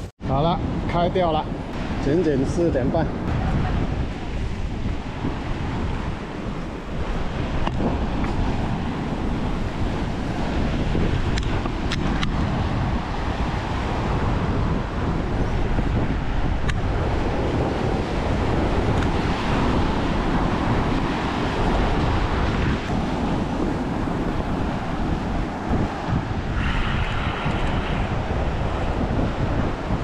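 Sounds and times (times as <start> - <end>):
ocean surf breaking on rocks: 0.0 - 30.0
wind buffeting microphone: 0.0 - 30.0.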